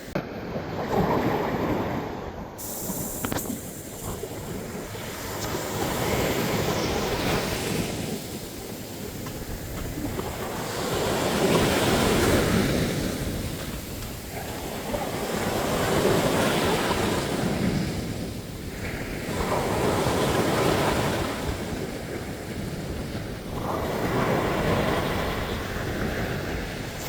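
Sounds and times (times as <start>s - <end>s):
ocean waves breaking on beach: 0.0s - 27.0s
wind on microphone: 0.0s - 27.0s.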